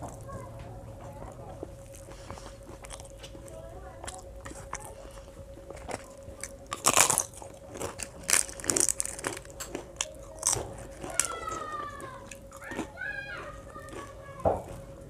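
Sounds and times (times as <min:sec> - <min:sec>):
faint steady hum: 0:00.0 - 0:15.0
crisp papad crunching: 0:01.1 - 0:14.9.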